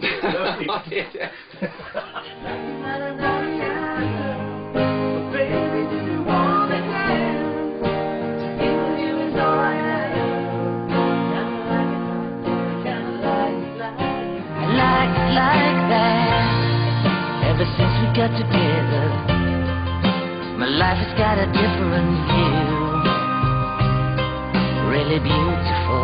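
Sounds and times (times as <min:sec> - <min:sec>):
wordless vocal line: 0:00.0 - 0:12.1, 0:12.8 - 0:19.4, 0:20.5 - 0:23.5, 0:24.6 - 0:26.0
acoustic guitar chords: 0:02.3 - 0:26.0.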